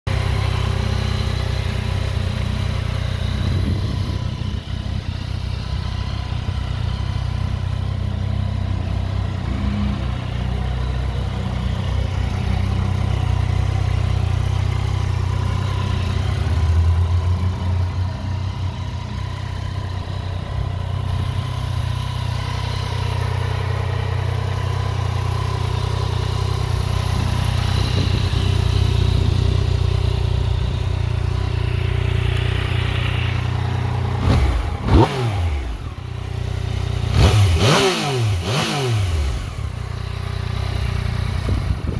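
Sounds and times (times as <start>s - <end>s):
motorcycle engine idling: 0.1s - 41.9s.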